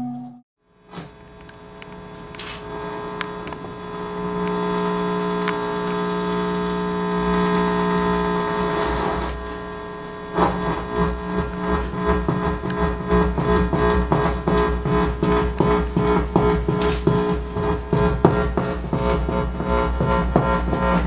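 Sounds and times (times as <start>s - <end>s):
drone of held tones: 0.0s - 0.4s, 1.4s - 21.0s.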